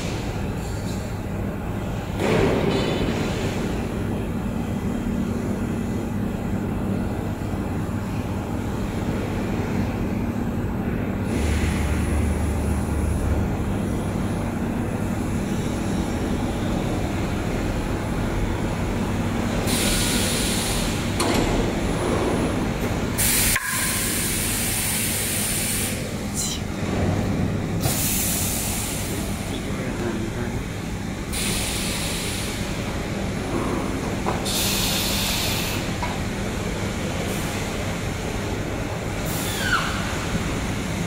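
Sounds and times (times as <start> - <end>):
laser cutting machine hum: 0.0 - 41.0.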